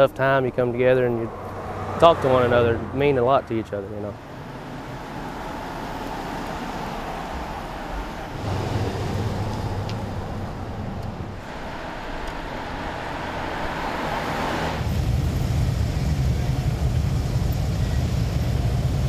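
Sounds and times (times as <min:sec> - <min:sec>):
vehicles passing by: 0:00.0 - 0:19.0
deep engine rumble: 0:00.2 - 0:19.0.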